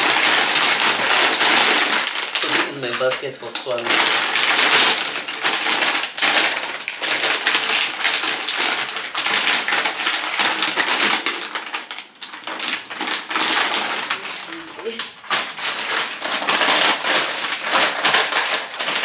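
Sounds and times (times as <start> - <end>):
plastic bags rustling and crinkling: 0.0 - 19.0.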